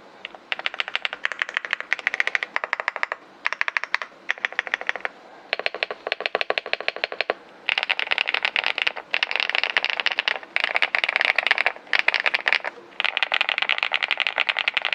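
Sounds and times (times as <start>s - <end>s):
mechanical keyboard typing: 0.2s - 14.9s.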